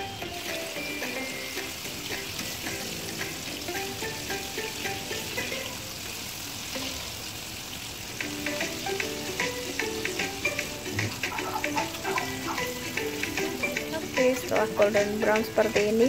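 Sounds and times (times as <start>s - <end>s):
background music: 0.0s - 6.0s, 8.1s - 16.0s
meat deep-frying in hot oil: 0.0s - 16.0s.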